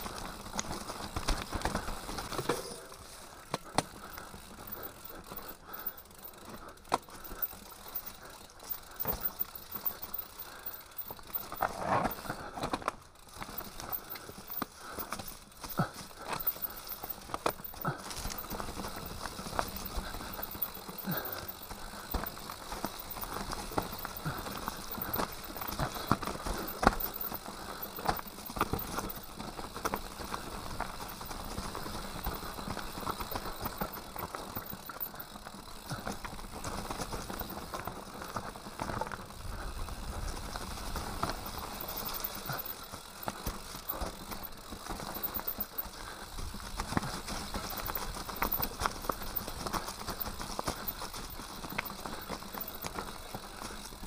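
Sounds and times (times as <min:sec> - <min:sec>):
tyres crunching over leaves and stones: 0:00.0 - 0:05.4, 0:06.1 - 0:54.0
bike rattling and clicking: 0:00.0 - 0:54.0.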